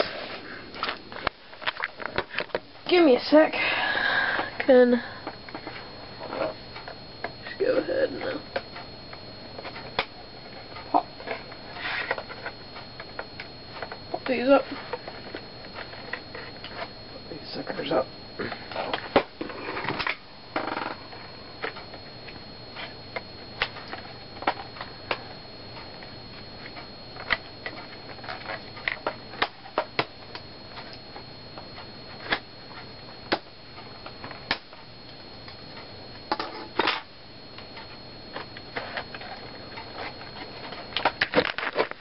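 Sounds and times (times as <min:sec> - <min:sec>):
camera high-pitched whine: 0:00.0 - 0:02.9, 0:04.3 - 0:42.0.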